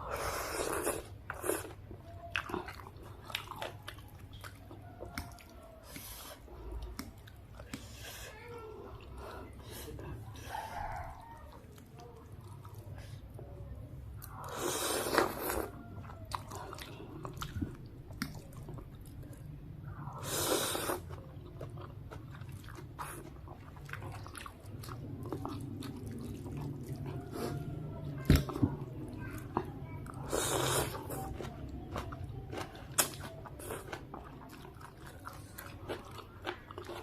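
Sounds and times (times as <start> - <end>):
wet chewing: 0.0 - 37.0.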